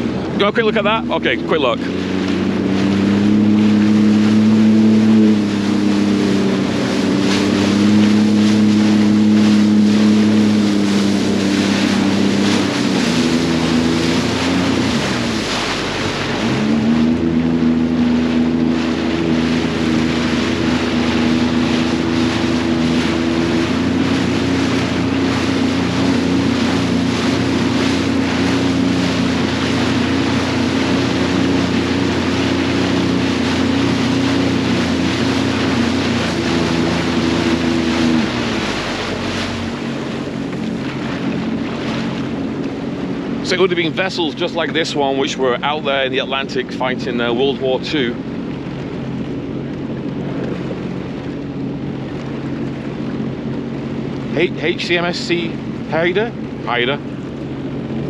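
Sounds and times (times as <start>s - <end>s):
water hissing along hull: 0.0s - 49.3s, 50.0s - 58.0s
personal watercraft engine running: 0.0s - 58.0s.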